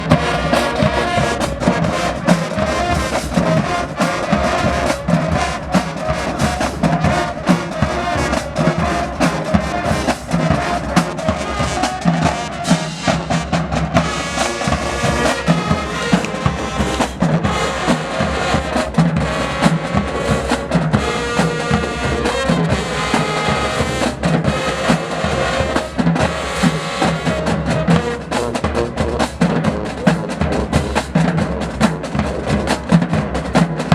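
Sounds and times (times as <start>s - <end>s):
brass chords: 0.0s - 33.9s
marching band playing: 0.0s - 33.9s.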